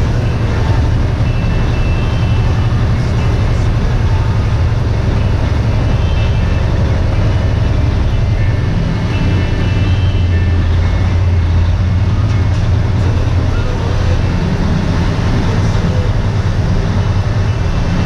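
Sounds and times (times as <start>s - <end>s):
diesel engine drone: 0.0s - 18.0s
road noise: 0.0s - 18.0s.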